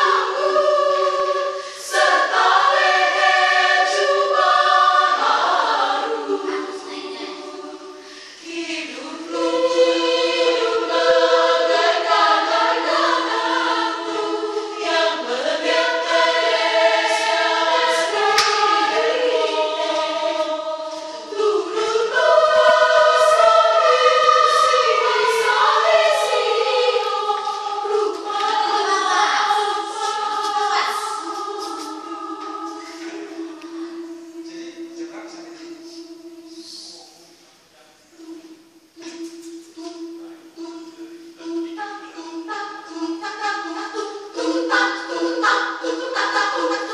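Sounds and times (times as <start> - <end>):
women's choir singing unaccompanied: 0.0 - 37.3, 38.1 - 46.9.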